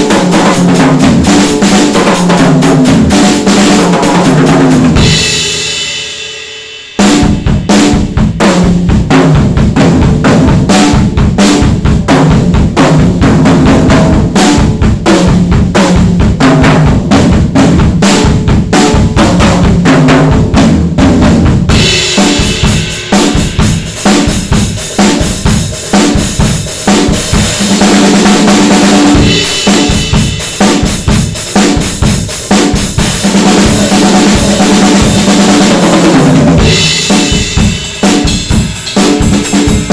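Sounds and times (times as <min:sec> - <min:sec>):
kick and snare drumming: 0:00.0 - 0:05.8, 0:07.0 - 0:39.9.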